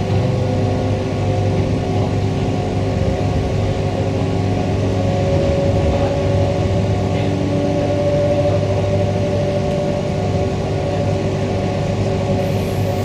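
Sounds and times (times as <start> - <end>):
electric train motor whine: 0.0 - 13.0.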